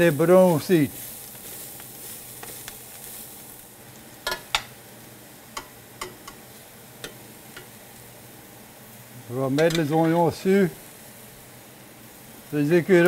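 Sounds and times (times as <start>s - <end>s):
meat and onions sizzling: 0.0s - 13.0s.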